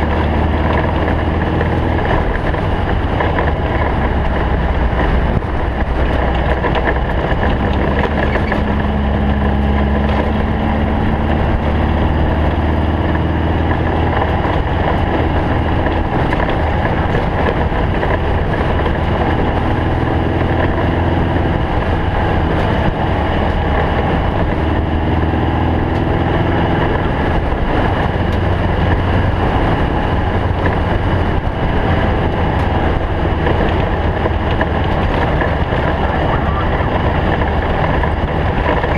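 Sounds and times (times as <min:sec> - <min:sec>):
snowmobile engine running: 0:00.0 - 0:38.9
wind noise on microphone: 0:00.0 - 0:38.9.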